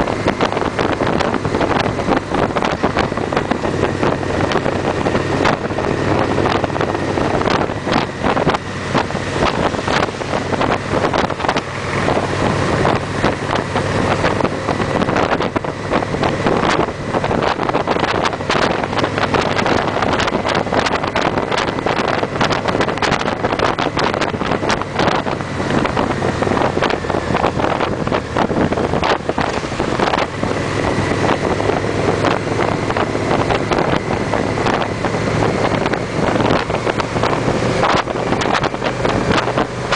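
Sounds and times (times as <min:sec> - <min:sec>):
motorcycle engines cruising: 0:00.0 - 0:39.9
wind buffeting microphone: 0:00.0 - 0:39.9.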